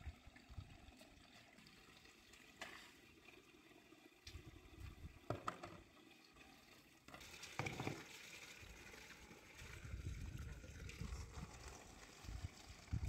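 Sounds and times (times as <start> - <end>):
hose water splashing into pot: 0.0 - 13.0.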